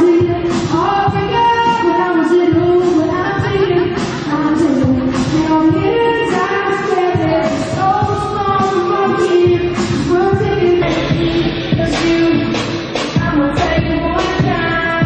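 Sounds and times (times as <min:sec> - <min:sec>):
backing band with steady beat: 0:00.0 - 0:15.0.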